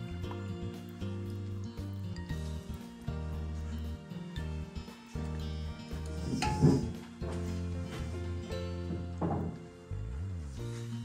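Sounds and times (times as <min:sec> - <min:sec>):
background music with bass notes: 0:00.0 - 0:11.0.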